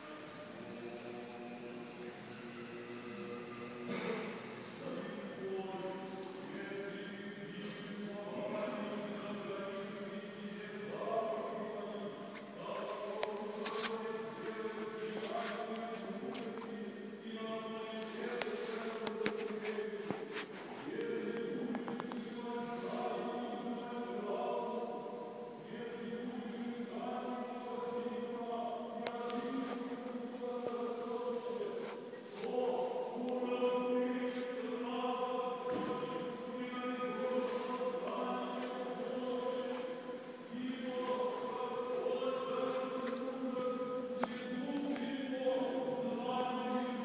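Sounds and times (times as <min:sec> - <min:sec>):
church choir chanting: 0:00.0 - 0:47.0.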